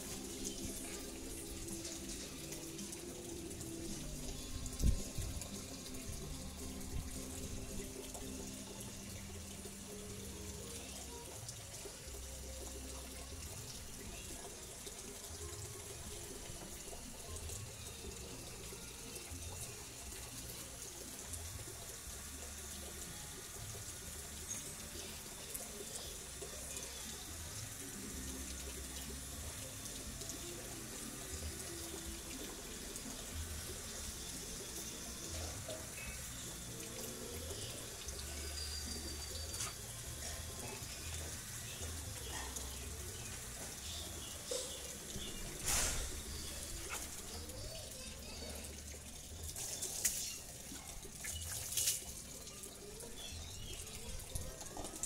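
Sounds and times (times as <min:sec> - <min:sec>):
water running from hose: 0:00.0 - 0:55.0.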